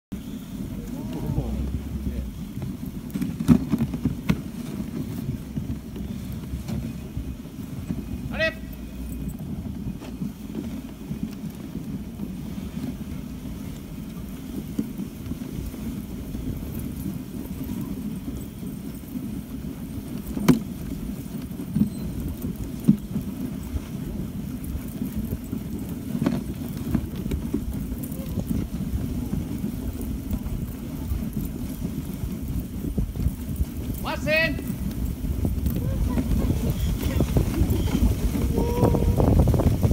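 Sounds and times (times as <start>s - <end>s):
sled runners scraping on snow: 0.1s - 39.9s
sled and harness knocks and rattles: 0.2s - 39.9s.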